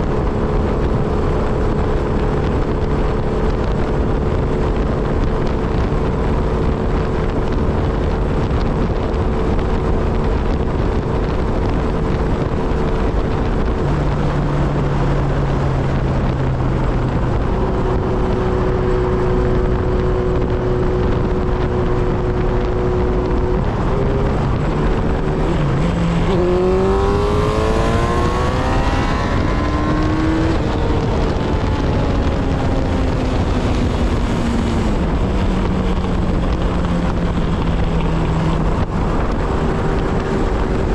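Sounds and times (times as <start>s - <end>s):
motorcycle engine revving: 0.0s - 40.9s
wind rush on microphone: 0.0s - 40.9s.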